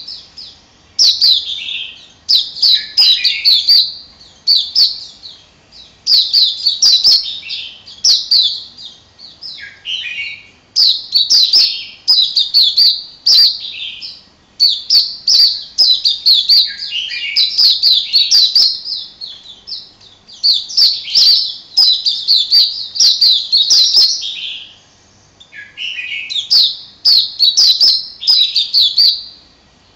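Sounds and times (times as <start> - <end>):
bird twittering song: 0.0 - 29.9.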